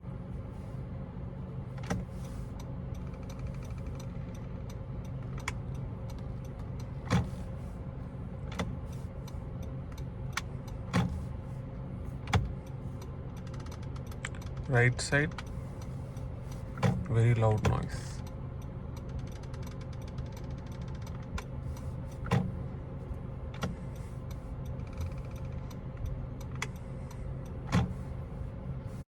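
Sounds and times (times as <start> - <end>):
low hum of car: 0.0 - 29.0
steering crackling clicks: 1.5 - 29.0.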